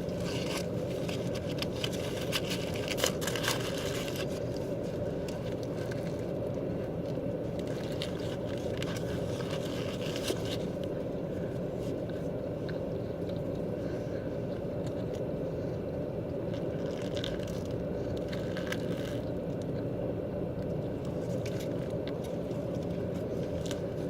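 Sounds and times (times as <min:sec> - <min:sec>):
wet chewing and crunching: 0:00.0 - 0:19.9, 0:20.5 - 0:24.0
low hum inside a car: 0:00.0 - 0:24.0.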